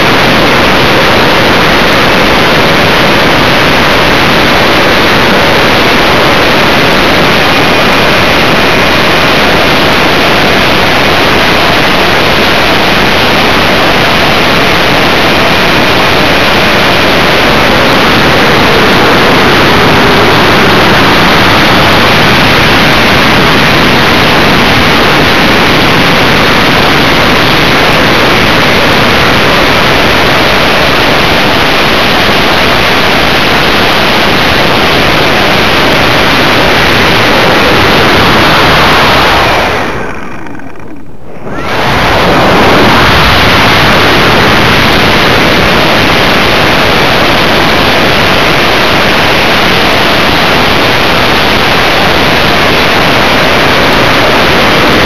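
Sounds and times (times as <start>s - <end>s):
wind and propeller rushing: 0.0s - 55.0s.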